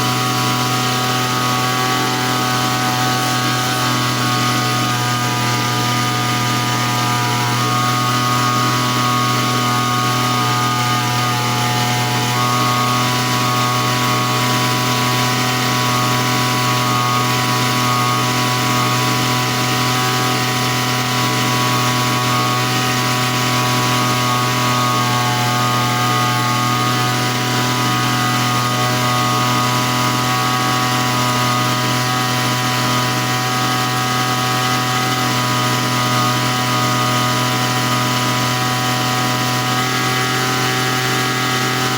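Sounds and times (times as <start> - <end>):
grass-cutter engine running: 0.0 - 41.9.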